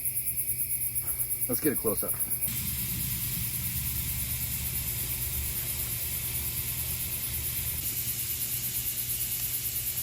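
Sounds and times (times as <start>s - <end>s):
night insects trilling: 0.0s - 10.0s
campfire rumble and hiss: 0.2s - 10.0s.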